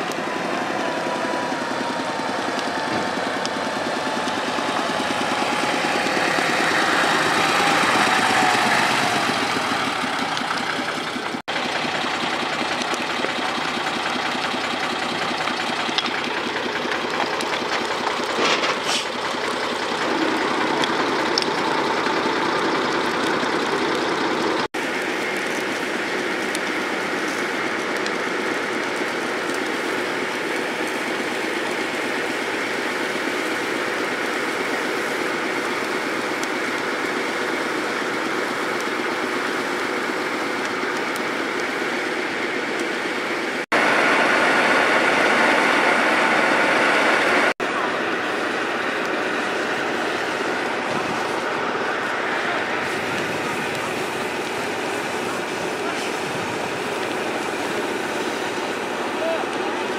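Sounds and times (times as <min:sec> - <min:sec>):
water spraying from hose nozzle: 0:00.0 - 0:23.4, 0:24.8 - 0:47.4, 0:48.0 - 0:59.9
engine running steadily: 0:00.0 - 0:59.9
fire truck engine driving past: 0:00.0 - 0:59.9.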